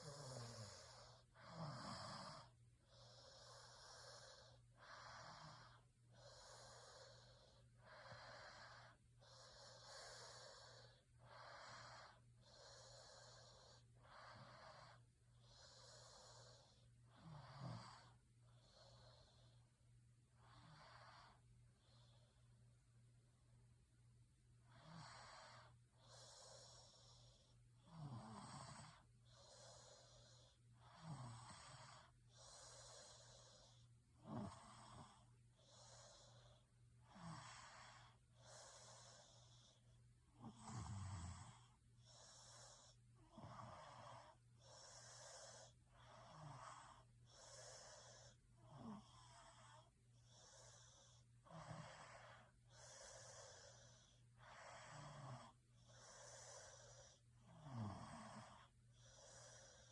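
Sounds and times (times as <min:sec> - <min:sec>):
person snoring faintly: 0:00.0 - 0:19.6, 0:24.6 - 0:59.9.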